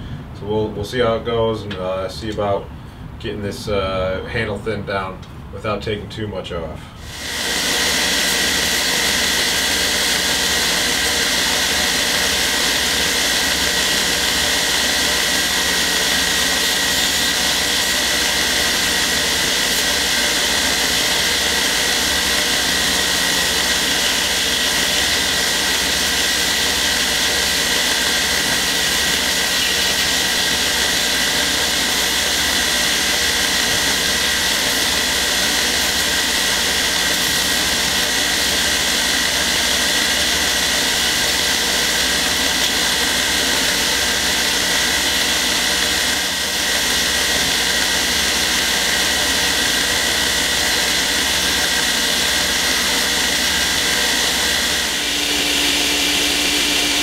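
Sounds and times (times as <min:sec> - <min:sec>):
belt grinder grinding wood: 0:07.0 - 0:57.0.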